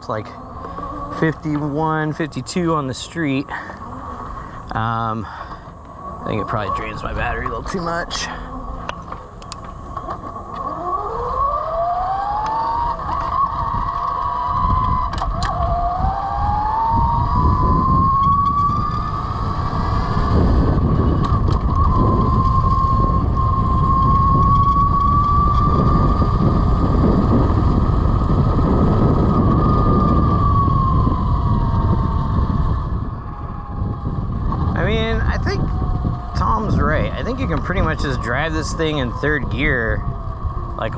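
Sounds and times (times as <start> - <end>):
electric motor whining: 0.0 - 40.9
wind rush on microphone: 0.0 - 40.9.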